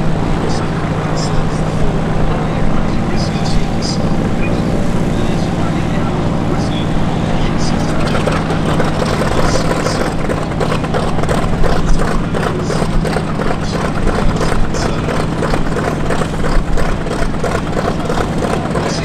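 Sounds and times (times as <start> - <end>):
helicopter flying overhead: 0.0 - 19.0
propeller engine running: 0.0 - 19.0.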